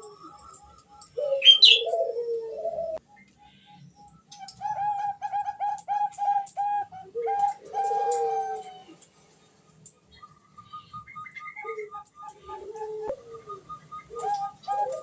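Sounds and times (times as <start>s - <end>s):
dove cooing: 0.0s - 3.0s, 4.4s - 9.0s, 10.3s - 15.0s.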